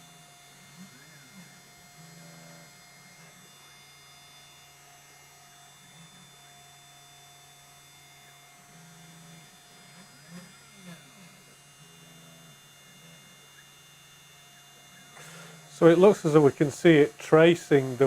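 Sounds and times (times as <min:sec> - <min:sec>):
stepper motors humming: 0:00.0 - 0:18.0.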